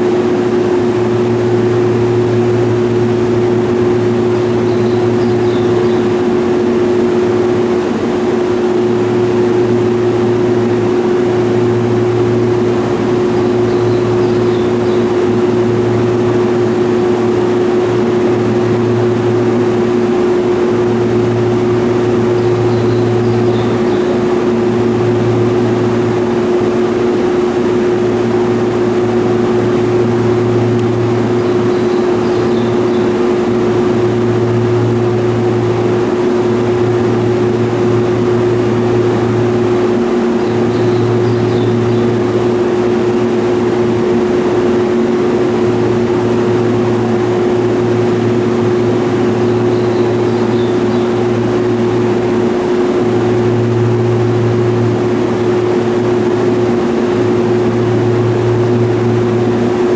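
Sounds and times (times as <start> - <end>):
deeper hum: 0.0 - 59.9
train electrical hum: 0.0 - 59.9.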